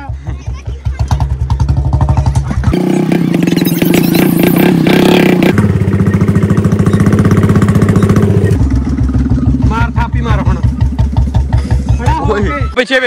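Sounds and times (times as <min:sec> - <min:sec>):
motorcycle engine thumping: 0:00.6 - 0:04.1, 0:04.7 - 0:12.5.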